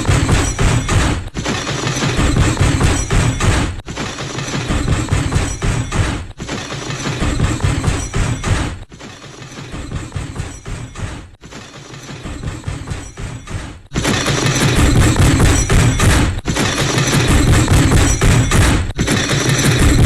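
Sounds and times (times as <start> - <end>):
cartoon crash of thuds and breaking: 0.0 - 8.9, 12.2 - 20.0.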